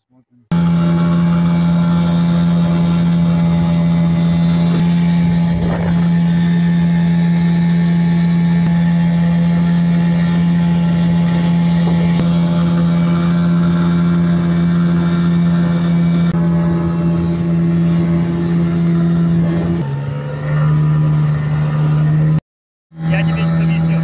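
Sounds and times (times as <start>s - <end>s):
outboard motor droning: 0.5s - 24.0s.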